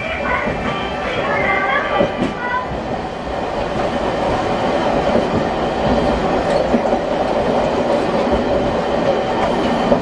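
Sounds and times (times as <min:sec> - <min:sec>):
tram wheels on rail: 0:00.0 - 0:10.0.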